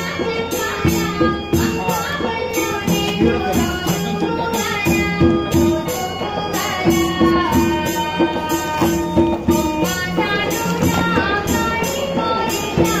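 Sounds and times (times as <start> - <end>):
song with bright percussion: 0.0 - 13.0.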